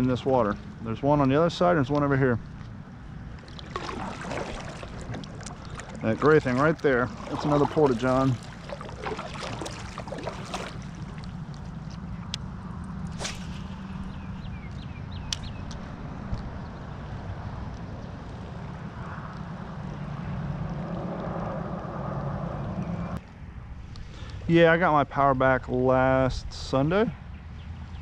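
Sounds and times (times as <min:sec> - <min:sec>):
water against kayak hull: 0:00.0 - 0:23.2
steady low hum: 0:00.0 - 0:28.0.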